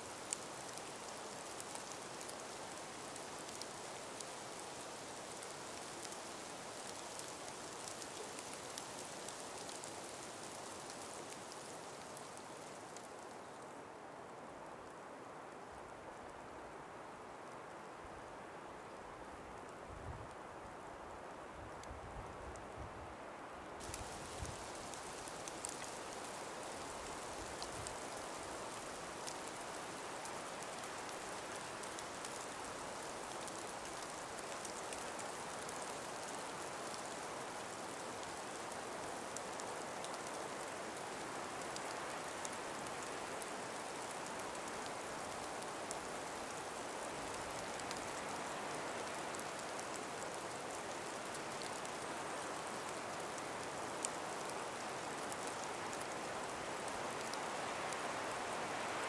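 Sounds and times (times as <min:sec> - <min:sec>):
breeze hiss: 0:00.0 - 0:13.9, 0:23.8 - 0:59.0
light ticks of ice: 0:00.1 - 0:13.7, 0:23.8 - 0:59.0.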